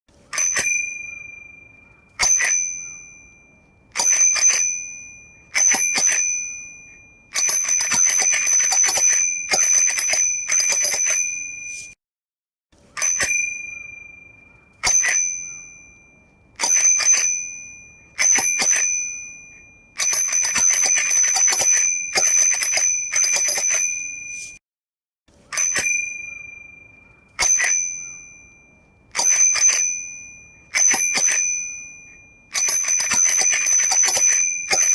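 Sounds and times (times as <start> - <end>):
bicycle bell ringing: 0.3 - 12.0, 13.0 - 24.6, 25.5 - 34.9.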